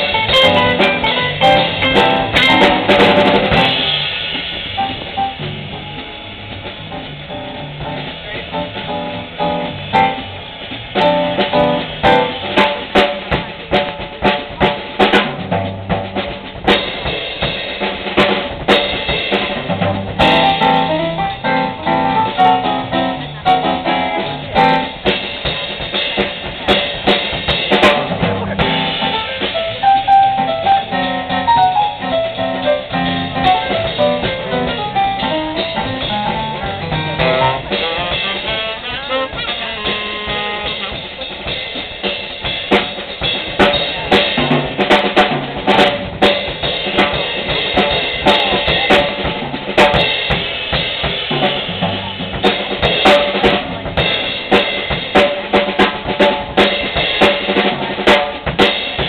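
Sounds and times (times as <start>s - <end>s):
drum solo hits: 0.0s - 59.0s
jazz band playing swing: 0.0s - 59.0s.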